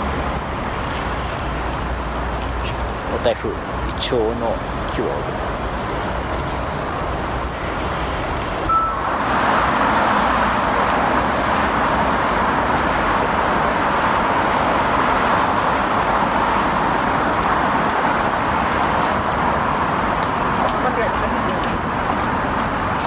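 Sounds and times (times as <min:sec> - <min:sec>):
city road traffic: 0:00.0 - 0:23.0.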